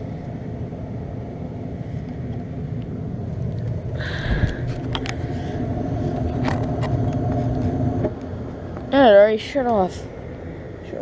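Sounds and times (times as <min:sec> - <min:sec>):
gas furnace rumbling: 0:00.0 - 0:11.0.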